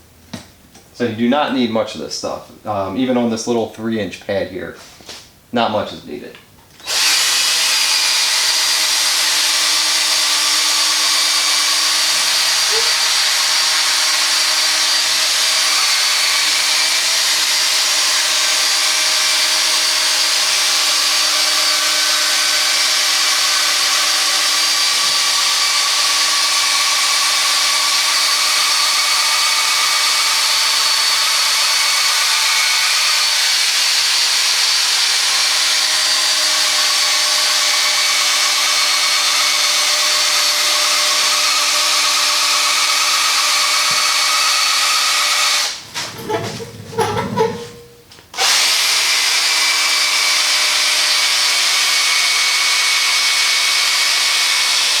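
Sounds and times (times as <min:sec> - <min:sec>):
power drill high whine: 0:06.8 - 0:45.8, 0:48.3 - 0:55.0.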